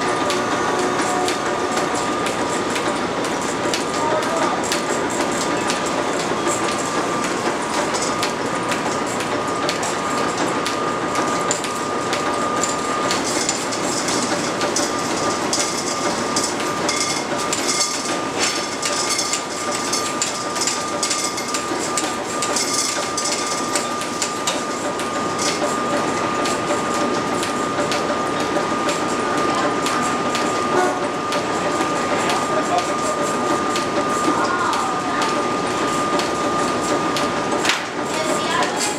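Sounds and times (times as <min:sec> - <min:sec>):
high machine whine: 0:00.0 - 0:38.9
machinery clicking and knocking: 0:00.0 - 0:38.9.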